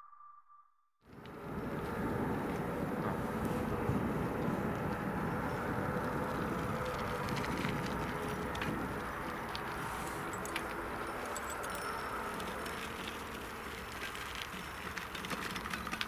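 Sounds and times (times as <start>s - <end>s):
turboprop engine humming: 1.1s - 16.0s.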